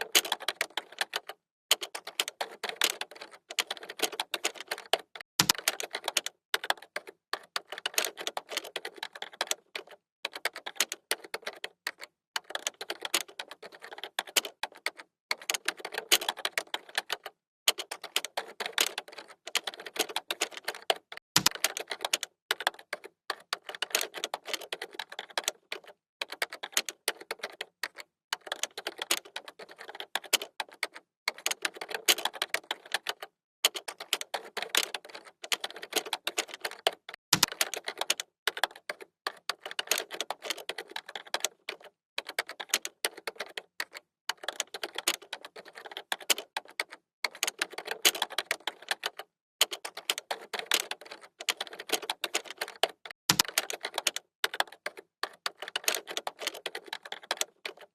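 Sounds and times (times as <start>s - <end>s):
typing on keyboard: 0.0s - 57.9s.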